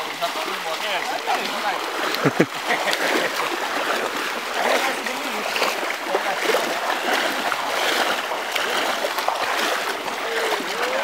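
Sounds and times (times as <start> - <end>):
people wading through water: 0.0 - 11.0
rushing water: 0.0 - 11.0.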